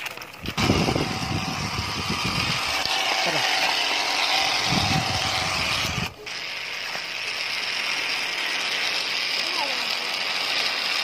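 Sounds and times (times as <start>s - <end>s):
small motors whirring: 0.0s - 11.0s.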